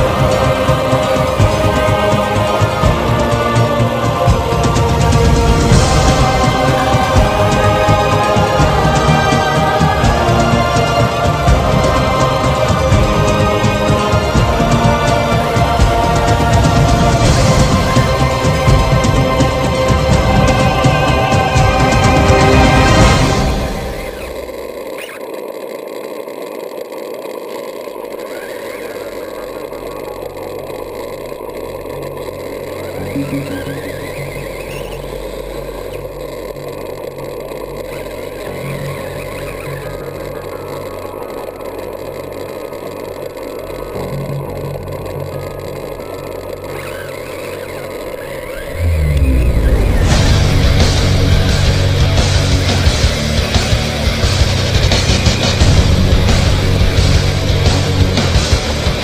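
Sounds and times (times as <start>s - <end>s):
background music: 0.0s - 24.6s, 30.4s - 42.7s, 47.9s - 59.0s
electric motor whirring: 0.0s - 59.0s
motor rising whines: 0.0s - 59.0s.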